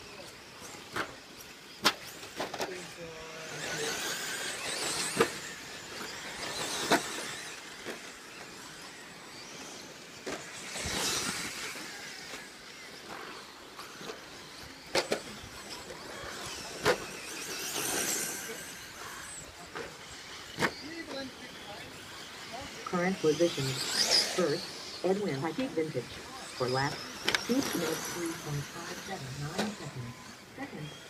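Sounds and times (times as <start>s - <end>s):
electric motor whine: 0.0s - 31.0s
toy trucks clacking on track: 0.0s - 31.0s.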